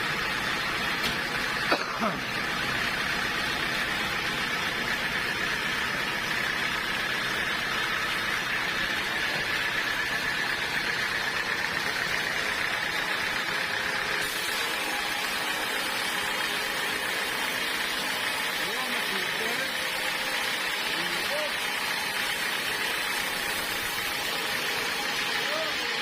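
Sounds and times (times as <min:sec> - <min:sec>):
constant machine whine: 0:00.0 - 0:26.0
sawmill machinery running: 0:00.0 - 0:26.0.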